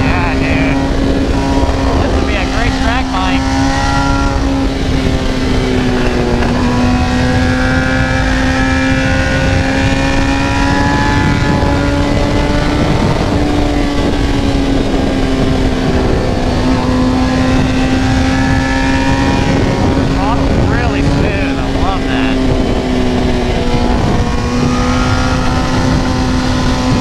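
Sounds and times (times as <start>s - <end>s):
motorcycle engine cruising: 0.0s - 27.0s
wind rushing over microphone: 0.0s - 27.0s.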